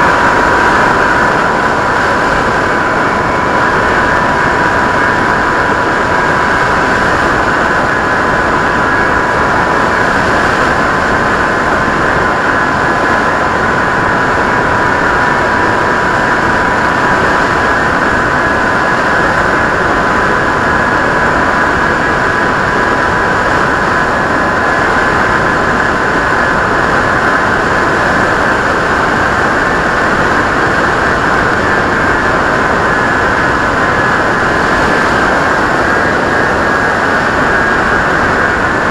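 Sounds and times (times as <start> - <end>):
electric motor and propeller whine: 0.0 - 38.9
wind noise: 0.0 - 38.9.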